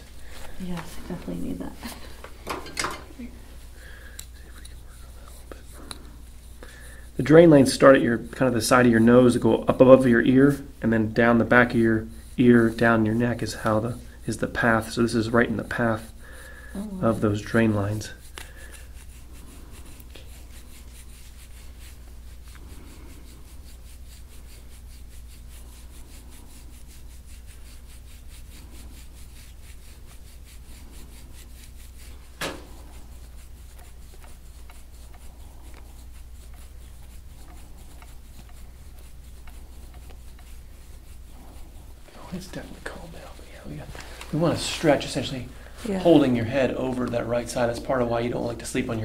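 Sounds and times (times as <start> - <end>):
fingertips rubbing skin: 0.0 - 2.4, 3.1 - 49.0
steady low hum: 0.0 - 49.0.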